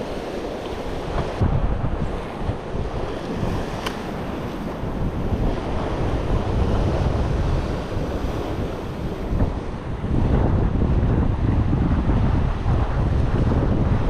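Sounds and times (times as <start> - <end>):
ocean surf breaking on rocks: 0.0 - 14.0
wind buffeting microphone: 0.0 - 14.0.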